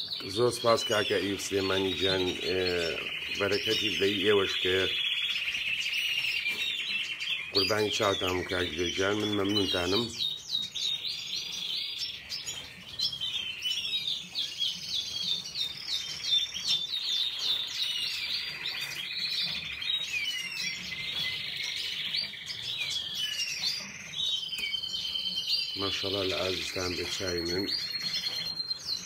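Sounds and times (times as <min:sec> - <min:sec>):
canaries chirping: 0:00.0 - 0:29.0.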